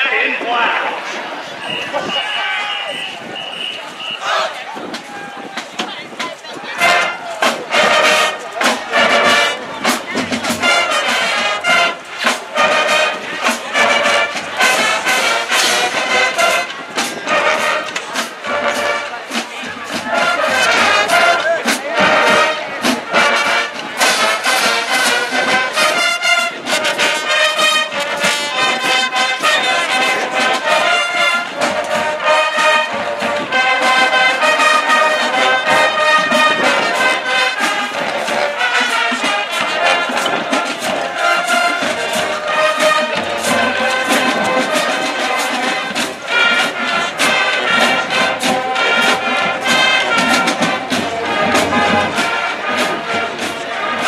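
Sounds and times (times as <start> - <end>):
brass section playing: 0.0 - 5.6, 6.7 - 54.0.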